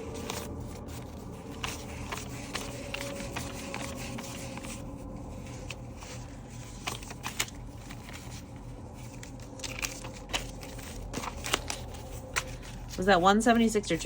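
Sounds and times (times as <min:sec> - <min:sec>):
banknotes rustling: 0:00.0 - 0:14.0
low steady hum: 0:00.0 - 0:14.0.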